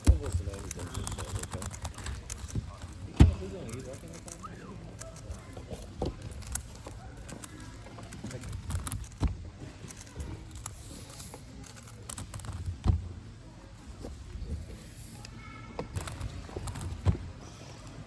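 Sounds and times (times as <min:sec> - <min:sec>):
plastic puzzle clacking: 0:00.0 - 0:13.1, 0:15.2 - 0:17.2
murmur of voices: 0:00.0 - 0:18.0.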